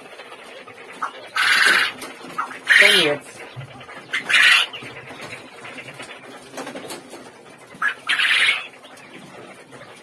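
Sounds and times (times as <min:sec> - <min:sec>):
birds rustling: 0:00.0 - 0:10.0
quails calling: 0:00.0 - 0:10.0.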